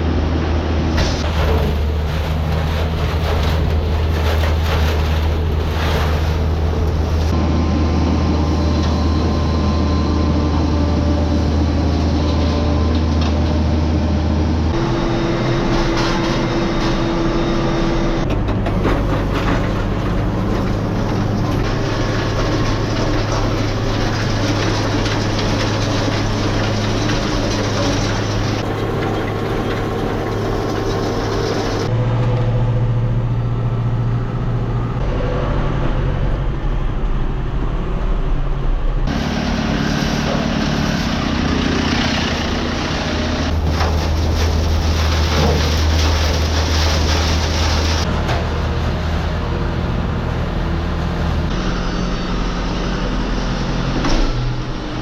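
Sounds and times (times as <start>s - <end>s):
vehicle engine running: 0.8s - 55.0s.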